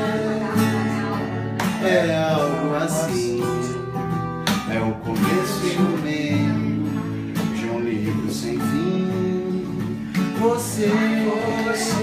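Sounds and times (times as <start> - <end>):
acoustic guitar strumming: 0.0 - 12.0
person singing: 0.0 - 12.0.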